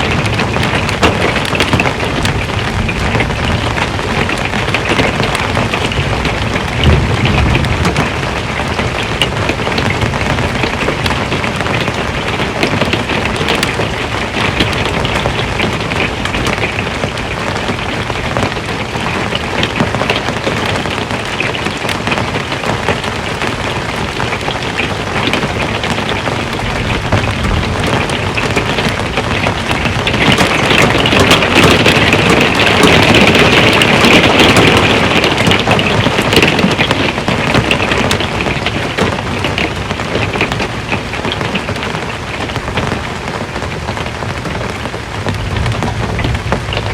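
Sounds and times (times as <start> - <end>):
rain on a metal roof: 0.0 - 46.9.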